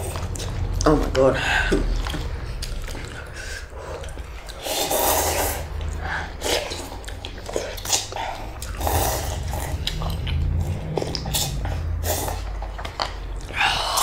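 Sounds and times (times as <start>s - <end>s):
chewing and slurping noodles: 0.0s - 14.0s.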